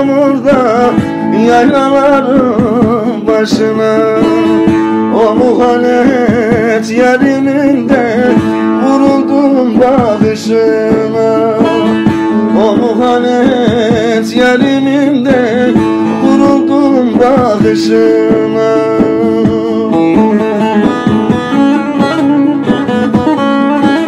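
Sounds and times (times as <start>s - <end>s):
long-necked lute played briskly: 0.0s - 24.0s
man singing folk song: 0.0s - 24.0s.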